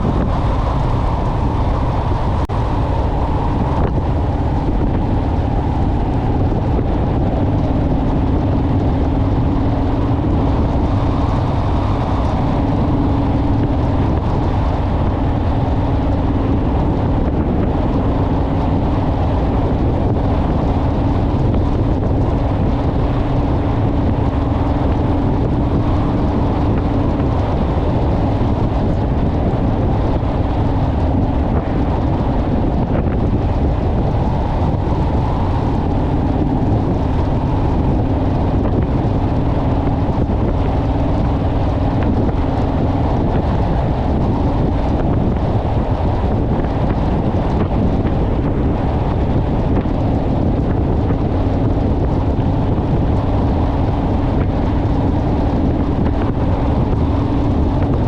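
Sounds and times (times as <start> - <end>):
motorcycle engine drone: 0.0 - 58.0
wind rushing over microphone: 0.0 - 58.0.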